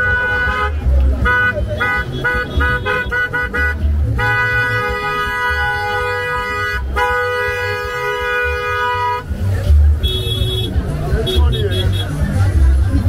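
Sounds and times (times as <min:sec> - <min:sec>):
car horn honking: 0:00.0 - 0:12.2
crowd murmur: 0:00.0 - 0:13.0
traffic rumble: 0:00.0 - 0:13.0.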